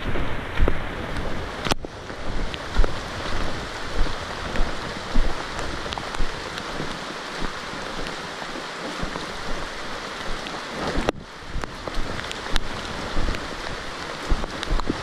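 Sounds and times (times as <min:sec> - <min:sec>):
footsteps on trail: 0:00.0 - 0:15.0
rain on foliage: 0:00.0 - 0:15.0.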